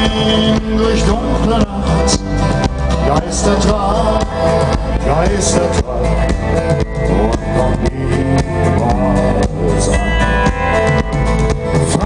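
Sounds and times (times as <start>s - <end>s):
acoustic guitar: 0.0s - 12.0s
bass: 0.0s - 12.0s
drums: 0.0s - 12.0s
electric guitar lead: 0.0s - 12.0s.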